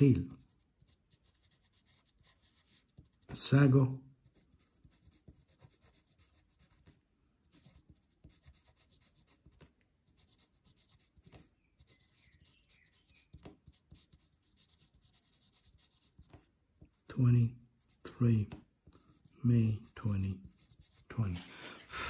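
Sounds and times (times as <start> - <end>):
pen scratching on paper: 0.0 - 3.6, 4.2 - 21.4.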